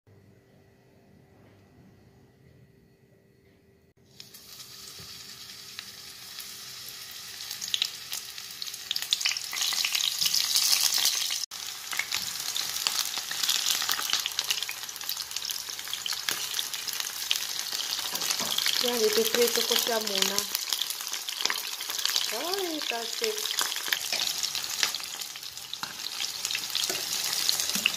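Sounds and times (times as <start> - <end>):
eggplant sizzling in oil: 4.0 - 27.9.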